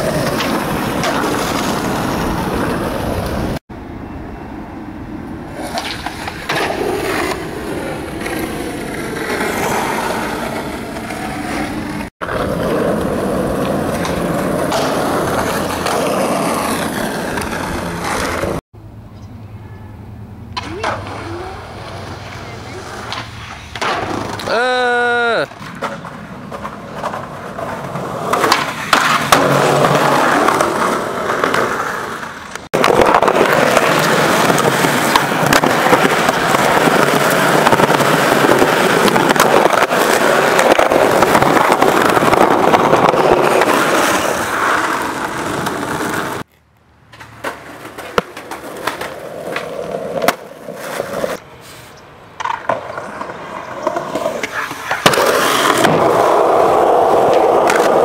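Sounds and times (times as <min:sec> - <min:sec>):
skateboard popping and landing: 0:00.0 - 0:03.6, 0:05.5 - 0:18.6, 0:20.5 - 0:24.6, 0:25.4 - 0:51.4, 0:52.3 - 0:58.0
skateboard wheels rolling on concrete: 0:00.0 - 0:58.0.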